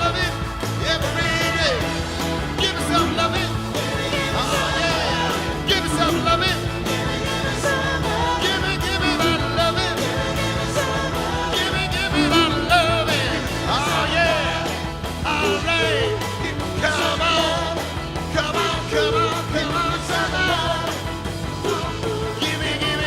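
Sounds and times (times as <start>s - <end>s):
band backing: 0.0s - 23.0s
vocal group singing in harmony: 0.0s - 23.0s.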